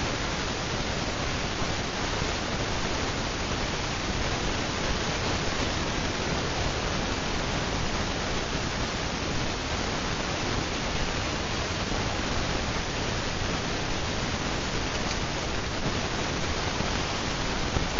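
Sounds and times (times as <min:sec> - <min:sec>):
ceiling fan rush of air: 0:00.0 - 0:17.9.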